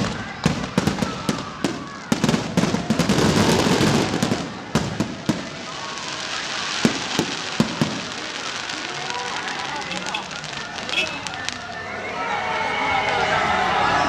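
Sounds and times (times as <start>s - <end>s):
fireworks bangs and crackle: 0.0s - 12.4s.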